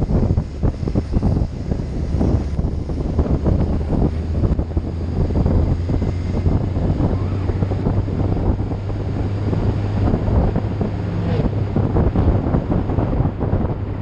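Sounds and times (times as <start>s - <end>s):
vehicle engine drone: 0.0s - 14.0s
wind buffeting microphone: 0.0s - 14.0s.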